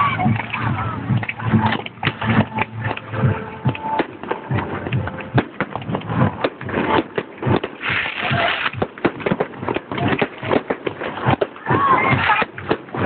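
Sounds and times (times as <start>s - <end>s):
fireworks banging: 0.0s - 13.0s
fireworks crackling: 0.0s - 13.0s.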